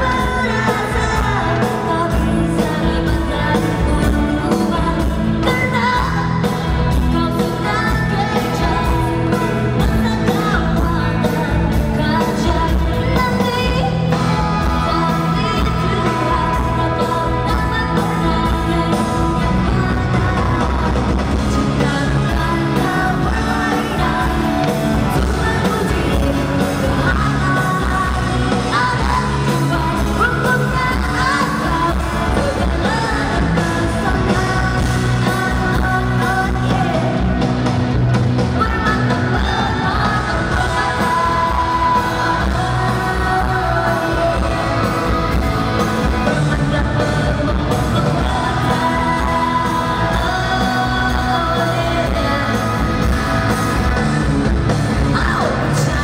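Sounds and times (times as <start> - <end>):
live rock band playing: 0.0 - 56.0
woman singing: 0.0 - 56.0.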